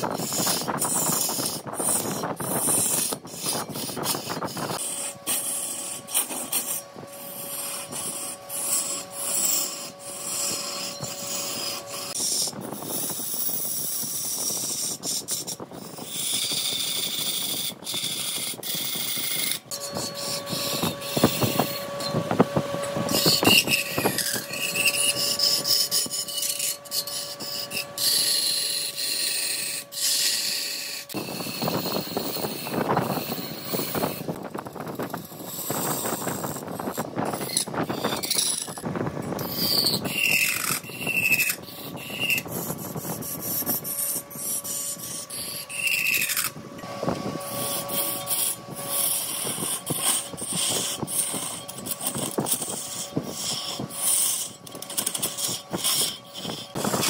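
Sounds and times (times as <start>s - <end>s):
tool scraping spinning wood: 0.0s - 57.0s
wood lathe motor whine: 0.0s - 57.0s.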